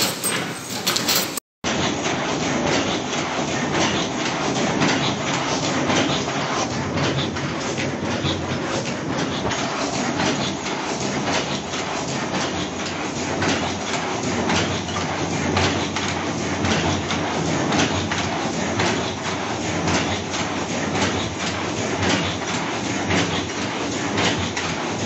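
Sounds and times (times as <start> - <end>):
machine clattering rapidly: 0.0 - 25.0.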